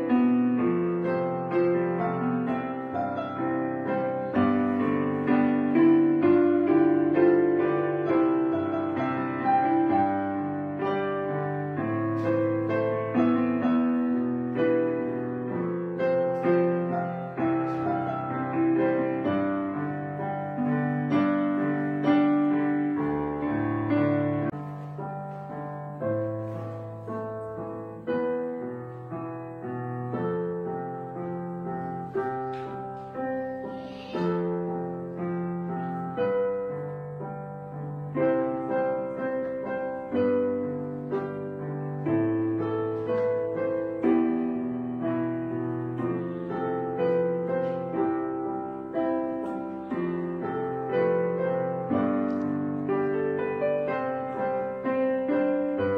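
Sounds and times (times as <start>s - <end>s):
piano music: 0.0s - 55.9s.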